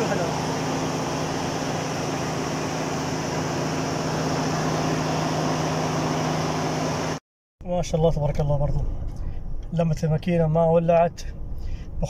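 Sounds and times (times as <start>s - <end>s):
car engine idling hum: 0.0s - 12.0s.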